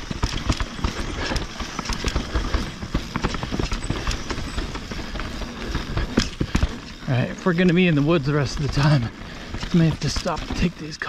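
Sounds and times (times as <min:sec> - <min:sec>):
bike knocking and rattling: 0:00.0 - 0:11.0
bike tyres rumbling on dirt: 0:00.0 - 0:11.0.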